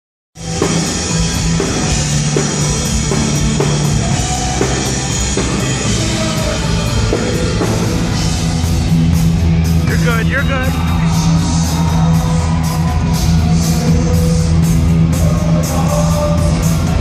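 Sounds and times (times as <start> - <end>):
live rock band playing: 0.4 - 17.0.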